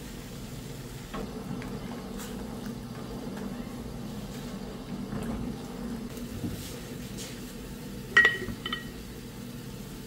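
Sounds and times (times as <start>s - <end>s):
water boiling in a pot: 0.0s - 10.0s.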